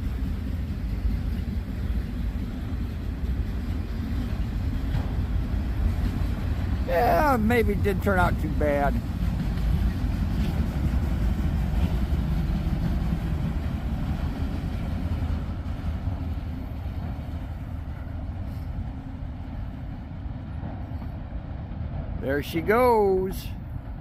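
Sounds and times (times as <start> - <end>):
freight train rumbling past: 0.0 - 24.0.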